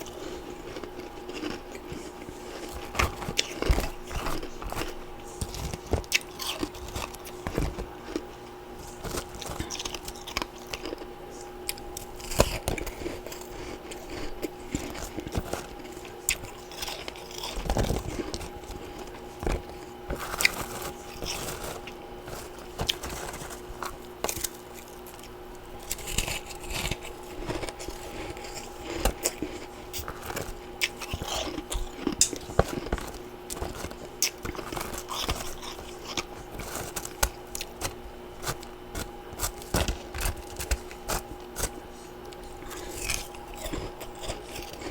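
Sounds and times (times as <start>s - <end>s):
chewing ice crunches: 0.0s - 44.9s
faint steady hum: 0.0s - 44.9s.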